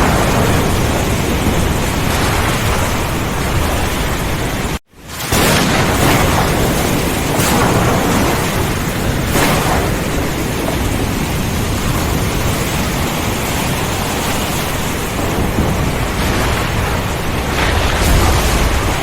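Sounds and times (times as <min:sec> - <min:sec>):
low rumble of thunder: 0:00.0 - 0:19.0
steady rain: 0:00.0 - 0:19.0.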